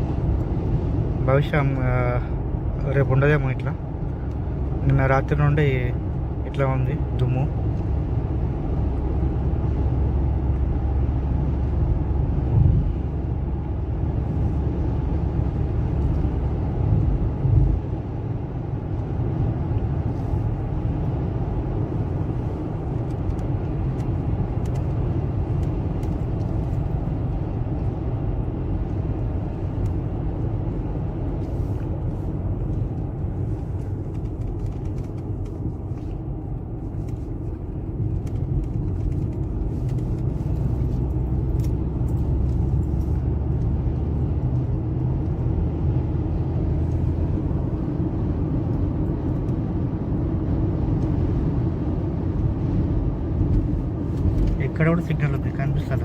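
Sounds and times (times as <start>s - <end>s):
car driving rumble from inside: 0.0s - 56.0s.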